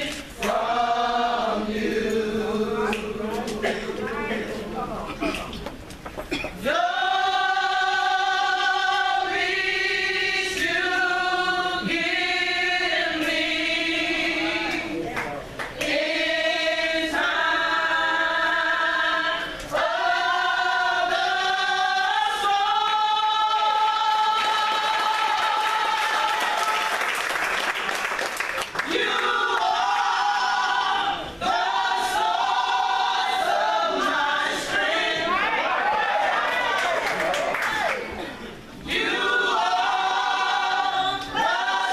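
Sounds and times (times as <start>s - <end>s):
vocal group singing in harmony: 0.0s - 5.0s, 6.3s - 15.0s, 15.7s - 27.2s, 28.7s - 37.2s, 38.2s - 41.9s.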